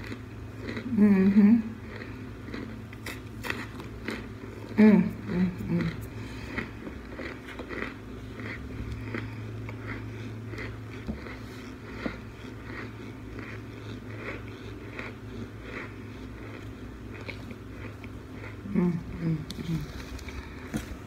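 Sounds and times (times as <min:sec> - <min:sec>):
chewing crunchy food: 0:00.0 - 0:21.0
steady low hum: 0:00.0 - 0:21.0.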